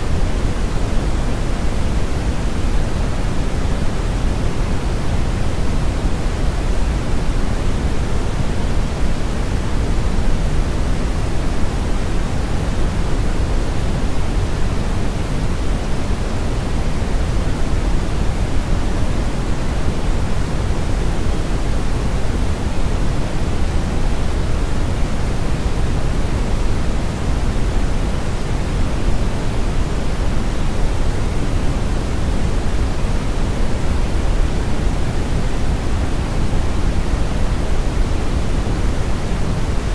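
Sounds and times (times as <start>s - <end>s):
brown noise rumbling hiss: 0.0s - 39.9s.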